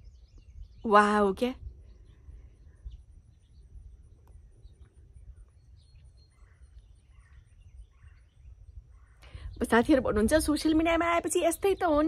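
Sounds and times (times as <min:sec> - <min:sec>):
soft bird chirps: 0:00.0 - 0:12.0.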